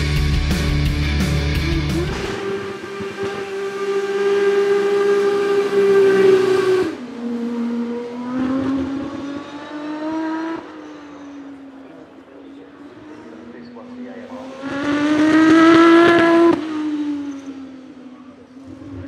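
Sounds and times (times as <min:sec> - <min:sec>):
race car engine at high revs: 0:00.0 - 0:19.0.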